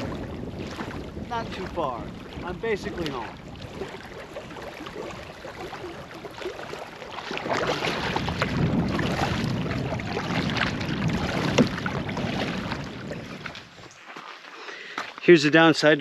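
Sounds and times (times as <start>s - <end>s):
knocks and scrapes on hull: 0.0s - 13.8s
water splashing and rushing: 0.0s - 14.0s.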